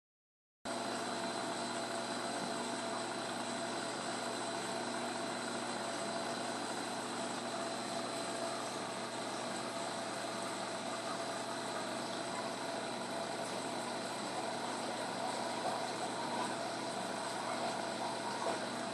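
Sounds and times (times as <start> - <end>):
aquarium equipment humming: 0.7 - 18.9.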